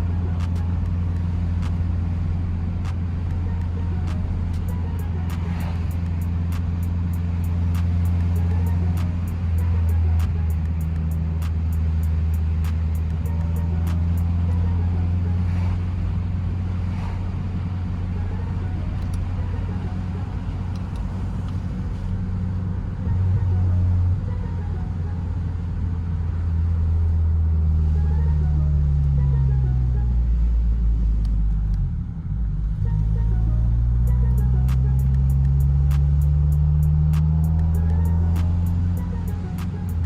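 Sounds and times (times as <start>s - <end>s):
car engine and exhaust running: 0.0s - 40.0s.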